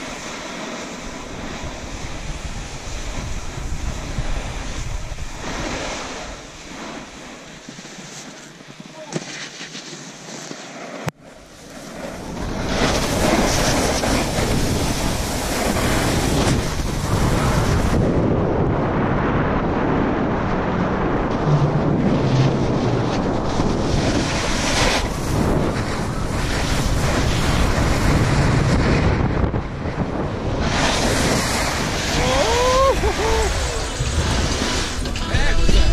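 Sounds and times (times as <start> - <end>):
wind rushing over microphone: 0.0 - 7.8, 11.0 - 35.9
skis scraping on snow: 0.0 - 18.3, 20.6 - 35.9.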